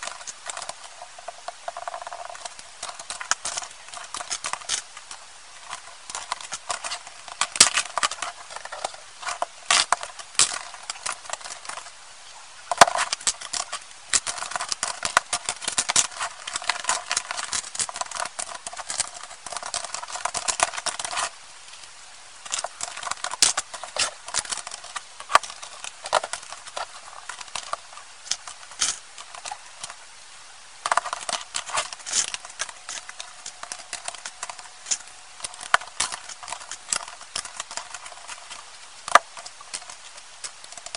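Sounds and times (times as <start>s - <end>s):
plastic bricks clicking: 0.0s - 11.9s, 12.7s - 21.3s, 22.4s - 30.0s, 30.8s - 40.9s.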